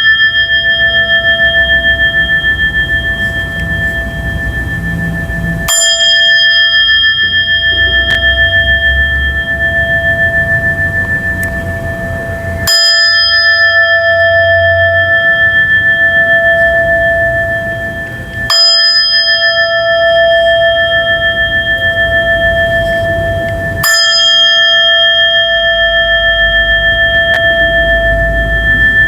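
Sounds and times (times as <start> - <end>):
bell ringing: 0.0 - 29.0.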